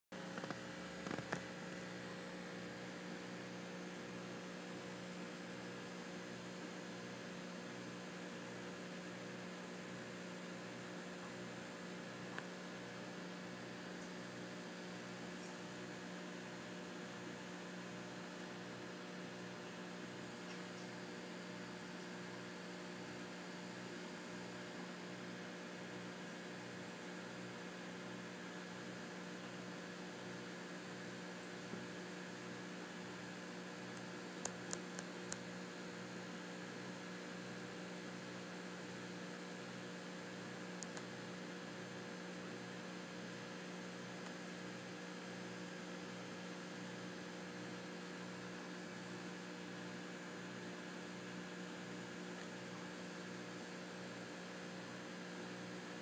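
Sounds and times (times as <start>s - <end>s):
electrical mains hum: 0.1s - 56.0s.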